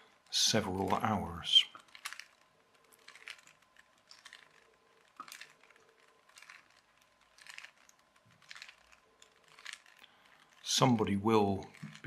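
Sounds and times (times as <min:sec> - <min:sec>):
puzzle cube faces clicking: 0:00.7 - 0:10.7.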